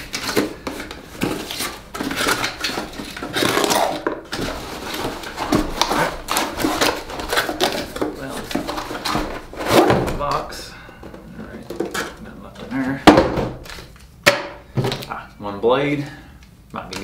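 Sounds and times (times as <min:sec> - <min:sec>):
papers rustling: 0:00.0 - 0:14.1.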